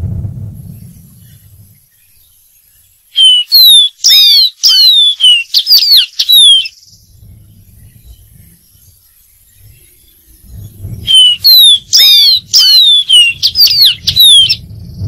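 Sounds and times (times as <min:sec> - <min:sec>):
bird singing whistled notes: 0:00.6 - 0:15.0.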